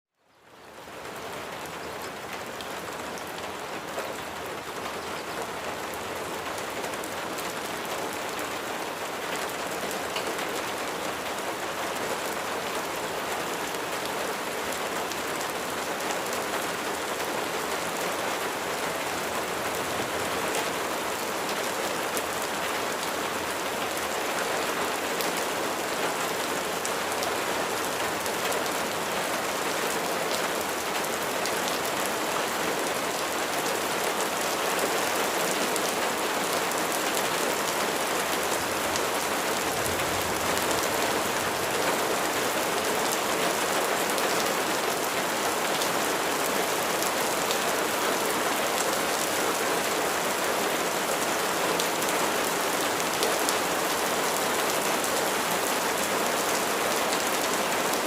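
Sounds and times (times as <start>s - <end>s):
rain falling: 0.2s - 58.0s.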